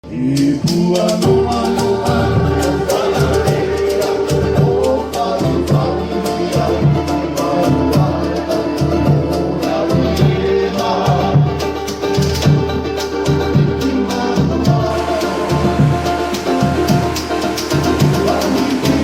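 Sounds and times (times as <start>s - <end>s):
song with singing and percussion: 0.0s - 19.0s.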